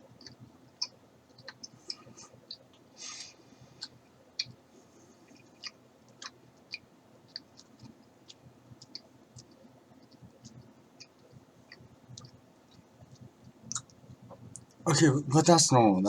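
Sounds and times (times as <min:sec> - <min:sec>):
chewing gummy mouth sounds: 0:00.0 - 0:04.6, 0:05.3 - 0:14.7.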